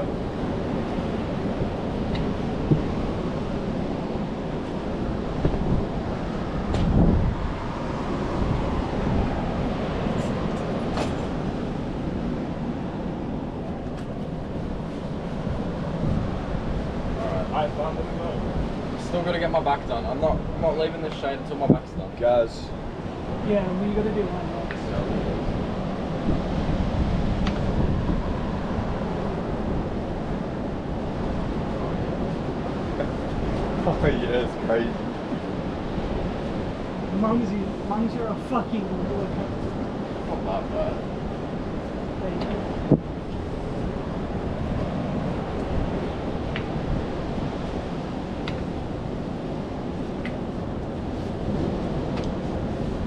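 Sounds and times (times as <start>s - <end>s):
ocean surf: 0.0s - 53.0s
wind buffeting microphone: 0.0s - 53.0s.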